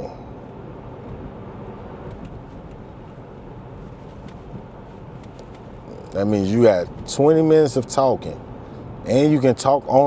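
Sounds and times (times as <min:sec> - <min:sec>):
road and tyre noise: 0:00.0 - 0:10.0.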